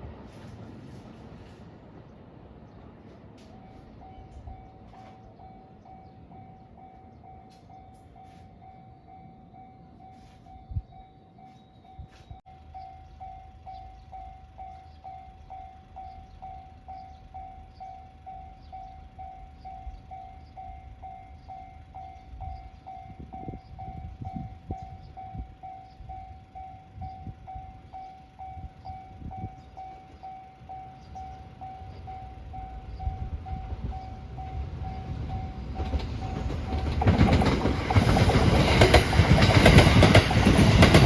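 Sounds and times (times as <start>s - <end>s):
train rumble: 0.0s - 41.0s
level-crossing warning bell: 3.4s - 41.0s.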